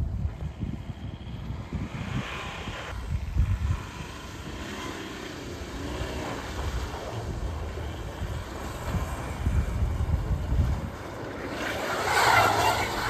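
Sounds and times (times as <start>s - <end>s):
car engine revving: 1.8s - 13.0s.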